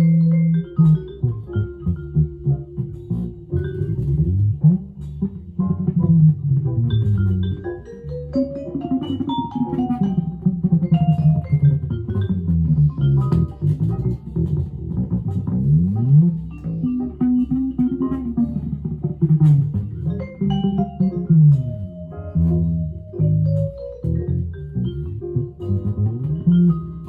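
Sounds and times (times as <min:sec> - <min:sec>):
electric guitar jazz line: 0:00.0 - 0:27.0.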